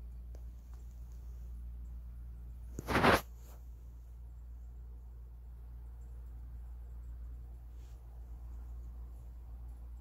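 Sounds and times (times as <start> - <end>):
low hum with hiss: 0.0 - 10.0.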